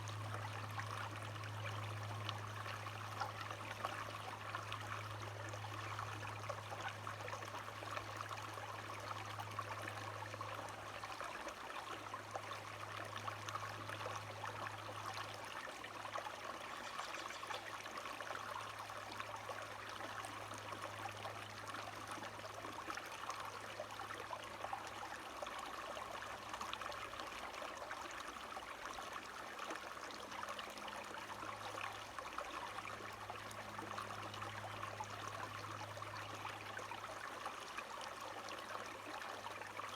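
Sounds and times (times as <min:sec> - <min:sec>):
low steady hum: 0:00.0 - 0:39.9
stream water trickling: 0:00.0 - 0:39.9.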